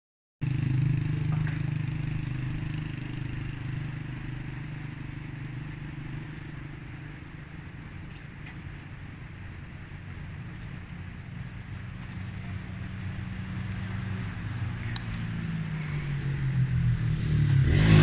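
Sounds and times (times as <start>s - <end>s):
vehicle engine humming: 0.4s - 18.0s.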